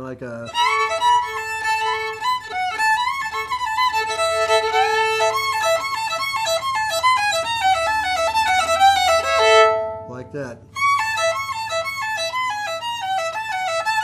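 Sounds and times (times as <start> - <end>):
solo fiddle playing fast: 0.4 - 14.0.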